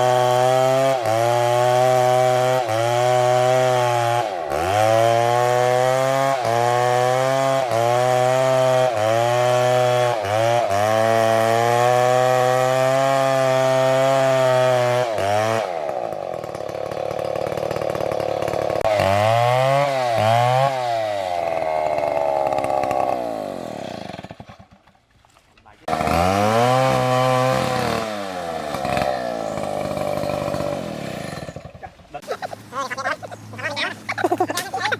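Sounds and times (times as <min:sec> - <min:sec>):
chainsaw revving: 0:00.0 - 0:24.7, 0:25.9 - 0:34.9.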